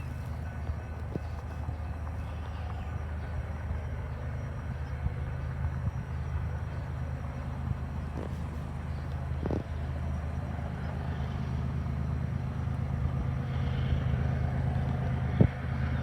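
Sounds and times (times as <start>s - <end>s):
freight train rumbling by: 0.0s - 16.0s.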